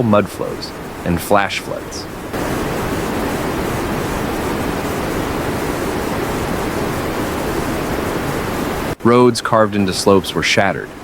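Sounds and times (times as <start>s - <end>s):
rushing floodwater roar: 0.0s - 11.0s.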